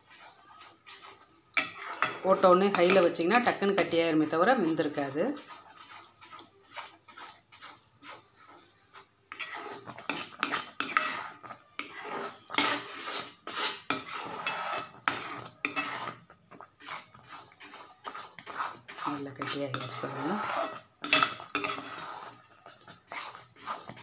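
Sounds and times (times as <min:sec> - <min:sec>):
metal spoon scraping pan: 0:00.0 - 0:24.0.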